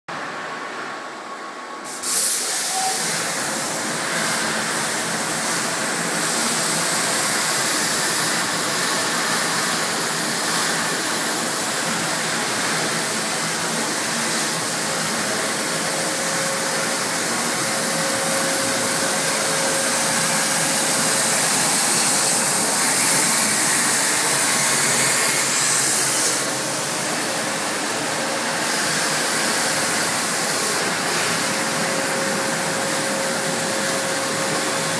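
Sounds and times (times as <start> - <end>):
plasma torch hissing: 1.8 - 34.9
plasma torch arc striking: 1.9 - 11.8, 12.5 - 34.9.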